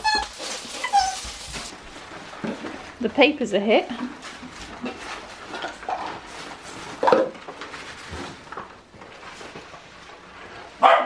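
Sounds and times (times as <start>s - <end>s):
paper and plastic crinkling: 0.0s - 3.4s, 4.1s - 10.8s.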